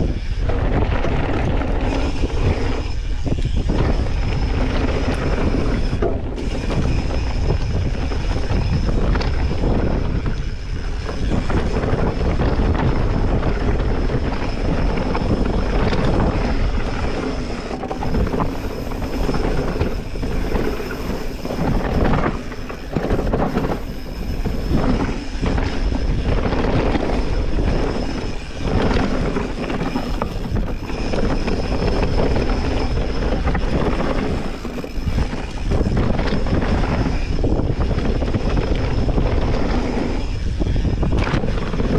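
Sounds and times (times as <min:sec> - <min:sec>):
bike knocking and rattling: 0:00.0 - 0:41.9
tyre and wind noise: 0:00.0 - 0:41.9.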